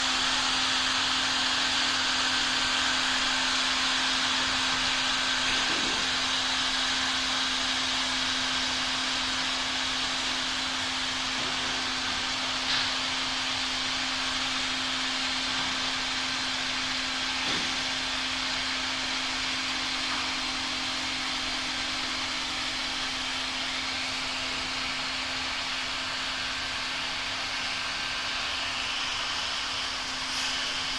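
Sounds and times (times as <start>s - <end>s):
blower hiss: 0.0s - 30.9s.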